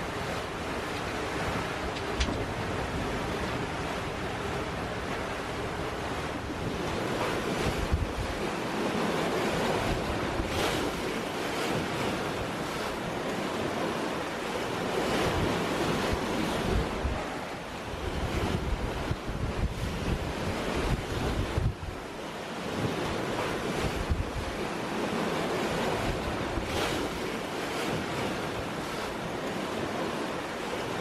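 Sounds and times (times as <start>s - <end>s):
sea rushing past boat: 0.0s - 31.0s
wind buffeting microphone: 0.0s - 31.0s.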